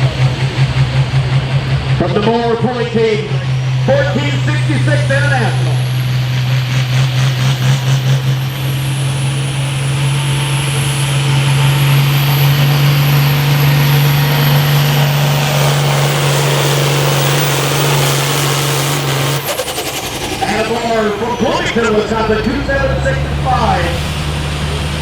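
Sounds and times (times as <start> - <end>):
high turbo whine: 0.0 - 25.0
tractor diesel engine at full throttle: 0.0 - 25.0.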